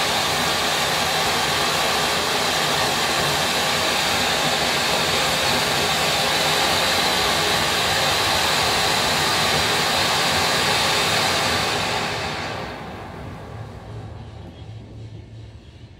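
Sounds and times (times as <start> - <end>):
firework fountain hissing: 0.0 - 13.5.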